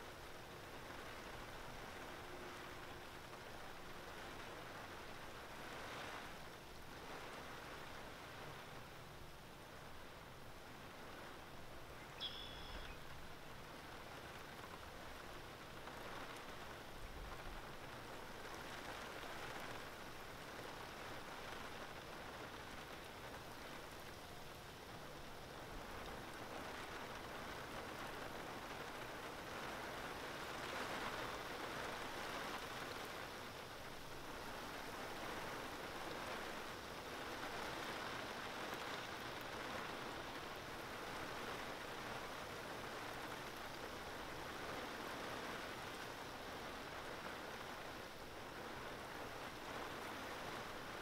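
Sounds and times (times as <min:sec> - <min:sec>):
light rain on water and grass: 0:00.0 - 0:51.0.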